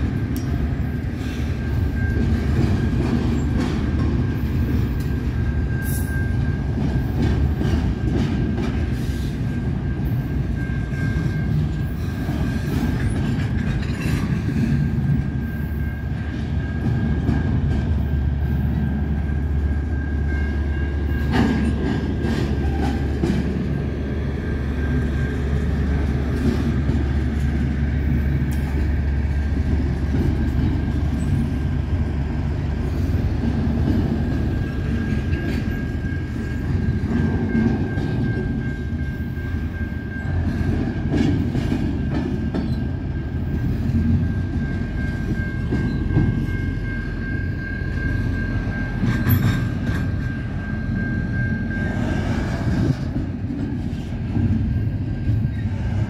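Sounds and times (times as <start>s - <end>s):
train cars rumbling past: 0.0s - 56.0s.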